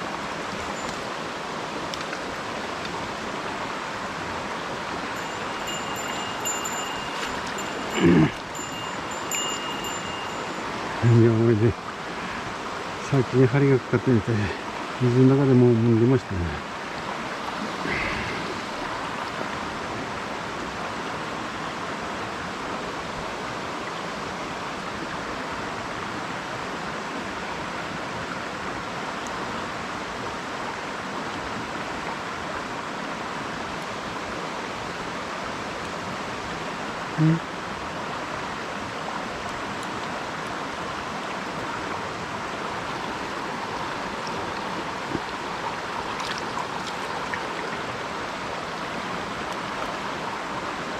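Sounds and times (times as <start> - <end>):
stream rushing over rocks: 0.0 - 50.9.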